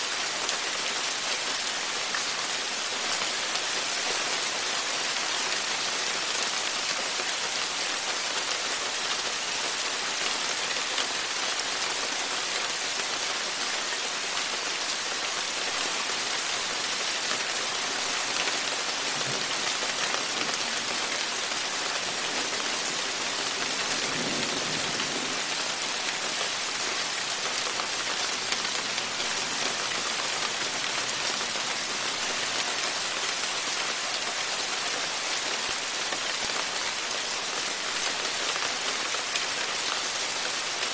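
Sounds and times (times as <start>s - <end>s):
steady rain pouring: 0.0s - 40.9s.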